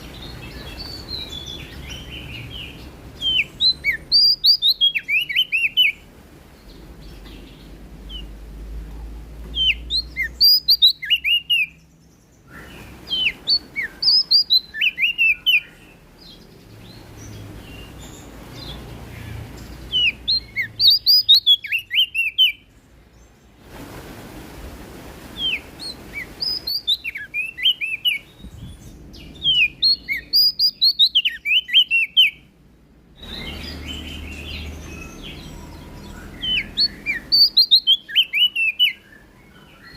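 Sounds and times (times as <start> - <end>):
songbird chirps and trills: 0.0 - 23.7, 25.0 - 39.9.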